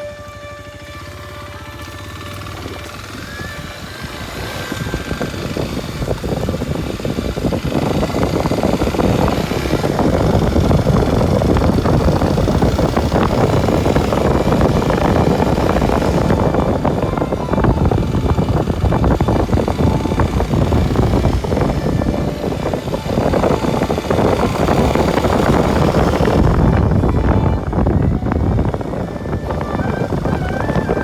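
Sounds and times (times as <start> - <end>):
motorcycle engine running: 0.0 - 31.0
rushing and crackling noise: 0.0 - 31.0.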